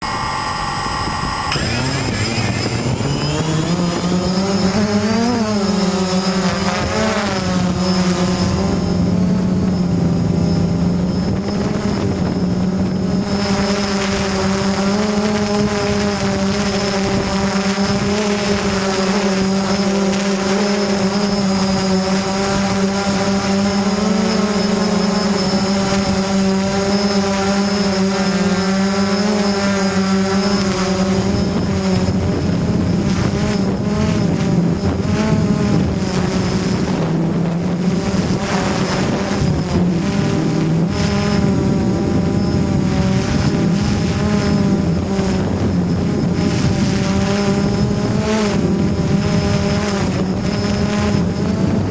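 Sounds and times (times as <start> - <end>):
drone propellers humming: 0.0 - 51.9.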